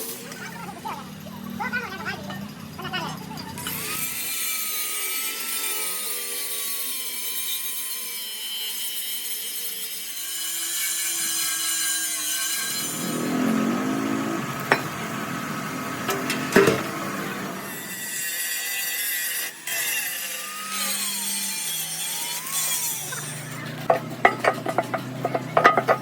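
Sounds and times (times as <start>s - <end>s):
power tool grinding steel: 0.0s - 26.0s.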